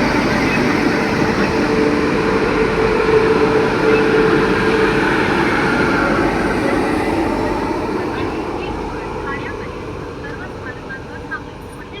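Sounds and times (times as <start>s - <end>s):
electric train running with droning hum: 0.0s - 12.0s.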